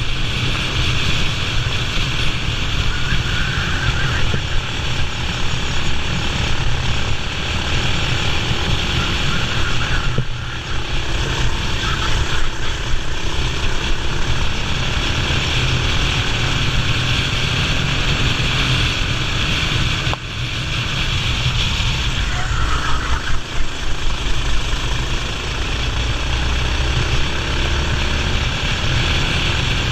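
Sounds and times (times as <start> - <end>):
racing kart engine running: 0.0 - 29.9
wind rush on microphone: 0.0 - 29.9.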